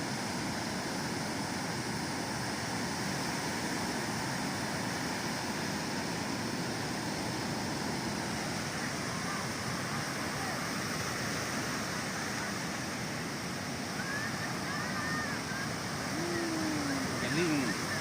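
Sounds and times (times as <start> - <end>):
ocean surf rushing: 0.0 - 18.0.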